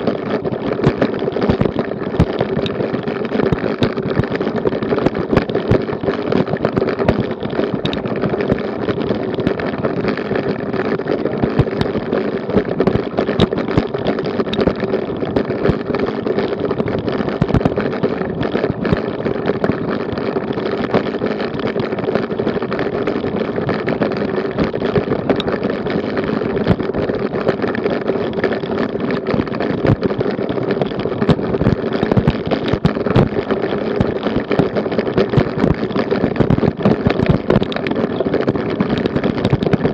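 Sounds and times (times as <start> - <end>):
bicycle rattling over cobblestones: 0.0 - 39.9.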